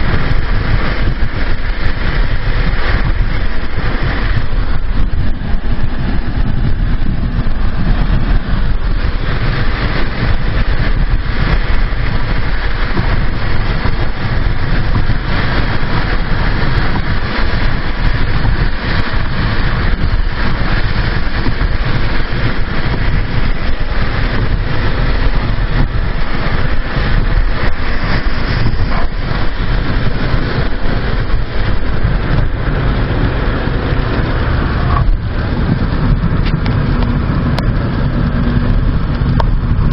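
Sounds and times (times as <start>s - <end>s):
strong wind buffeting microphone: 0.0s - 39.9s.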